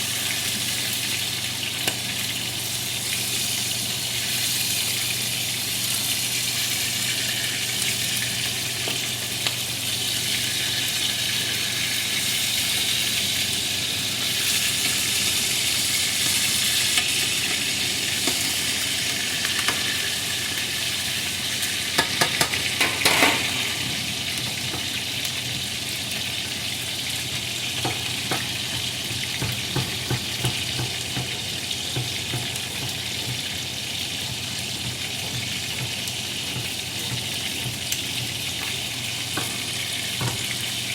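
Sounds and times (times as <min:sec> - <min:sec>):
food sizzling in frying pan: 0:00.0 - 0:40.9.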